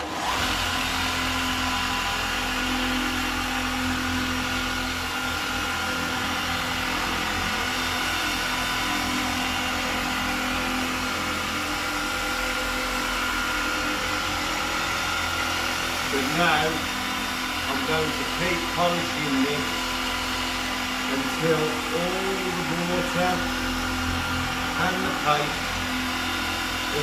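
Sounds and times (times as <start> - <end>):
machine polisher motor hum and whine: 0.0 - 27.0.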